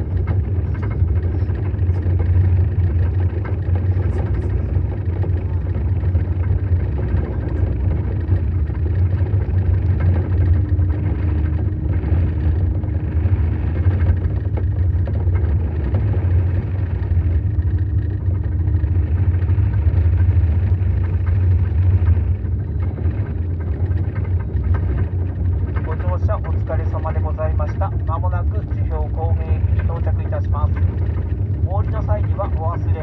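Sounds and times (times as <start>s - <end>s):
snowcat engine droning: 0.0s - 33.0s.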